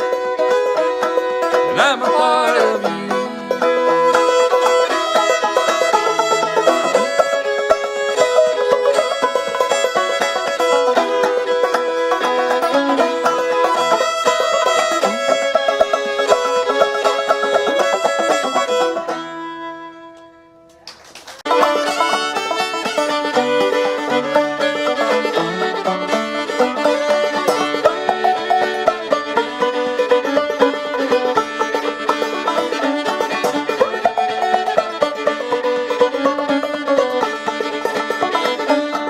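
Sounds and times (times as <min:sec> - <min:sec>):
banjo tune: 0:00.0 - 0:20.4, 0:21.4 - 0:39.0
banjo and fiddle music: 0:00.0 - 0:20.8, 0:21.4 - 0:39.0.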